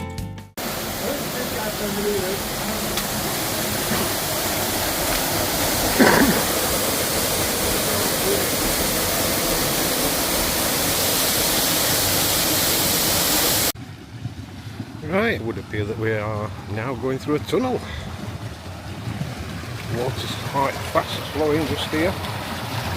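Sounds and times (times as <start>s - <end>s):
waterfall rushing: 0.6s - 13.8s, 17.0s - 22.9s.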